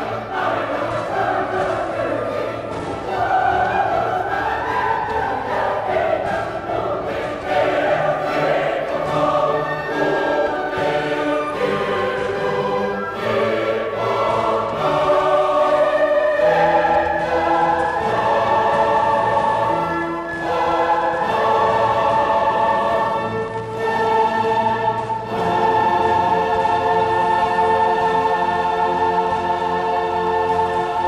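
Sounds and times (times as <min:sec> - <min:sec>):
choir singing with orchestra: 0:00.0 - 0:31.0.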